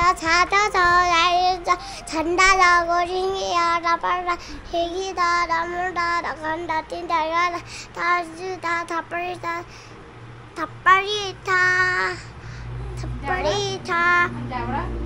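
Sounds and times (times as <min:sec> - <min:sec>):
girl singing in high voice: 0:00.0 - 0:09.7, 0:10.6 - 0:12.3, 0:13.0 - 0:14.4.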